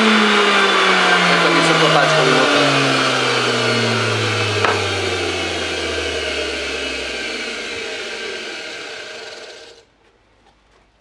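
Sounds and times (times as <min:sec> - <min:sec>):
electric motor winding down: 0:00.0 - 0:09.8.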